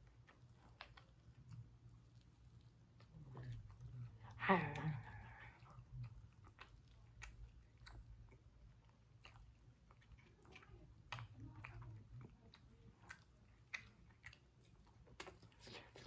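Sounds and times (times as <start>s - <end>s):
low steady hum: 0.0s - 16.0s
person chewing food: 0.0s - 16.0s.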